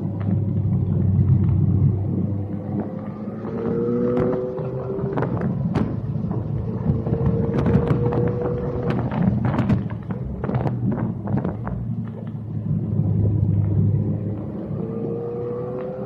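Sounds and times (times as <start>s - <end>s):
car engine drone from cabin: 0.0s - 16.0s
engine whine: 0.0s - 16.0s.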